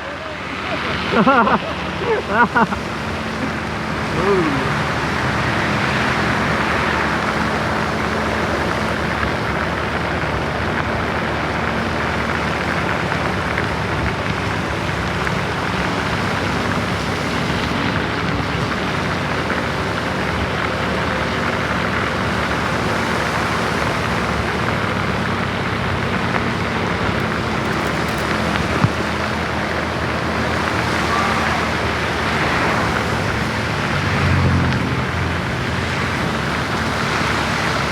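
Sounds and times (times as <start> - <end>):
bus engine drone: 0.0 - 37.9
rain and wet road hiss: 0.0 - 37.9.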